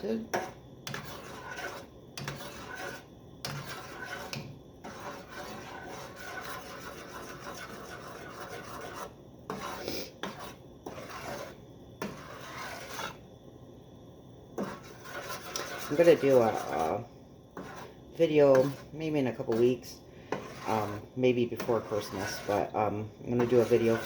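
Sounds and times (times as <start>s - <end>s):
utensil scraping saucepan bottom: 0.2s - 13.2s, 14.6s - 24.0s.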